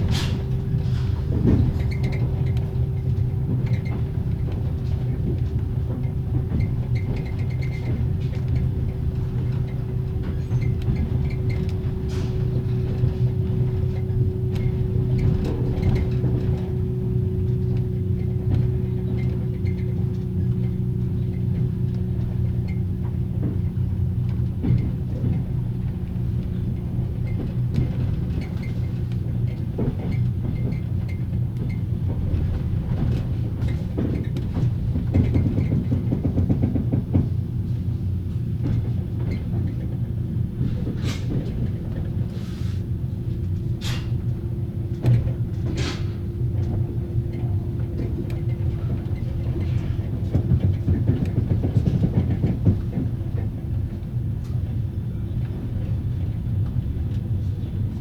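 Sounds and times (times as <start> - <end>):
railway car running gear rumble: 0.0 - 58.0.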